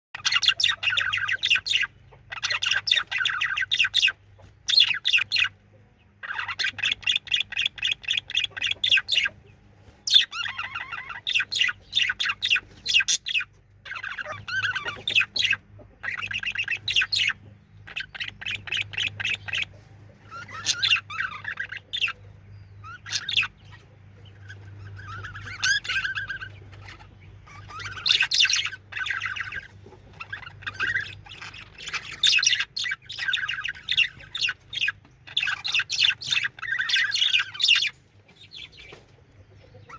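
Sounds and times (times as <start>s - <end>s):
budgerigar warbling and chirping: 0.2s - 39.9s.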